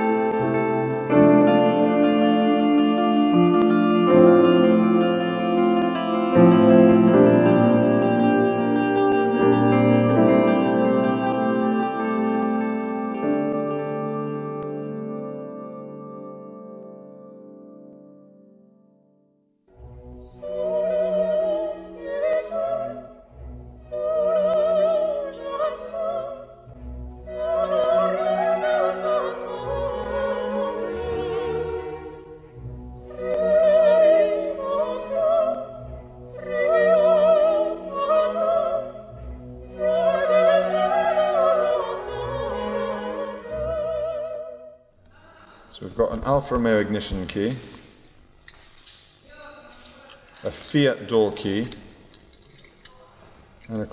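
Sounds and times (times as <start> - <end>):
orchestral accompaniment: 0.0 - 18.2, 19.7 - 44.7.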